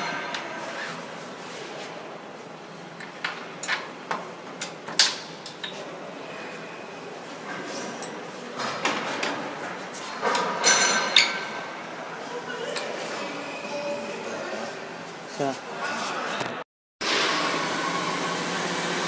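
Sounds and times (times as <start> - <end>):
steady background noise: 0.0 - 16.6.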